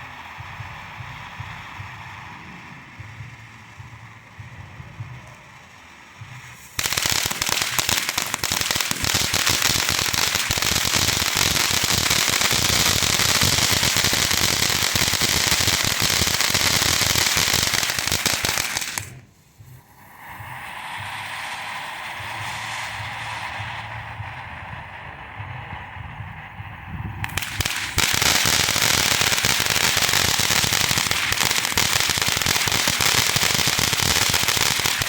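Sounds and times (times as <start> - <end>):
firework fountain crackling: 0.0 - 35.0.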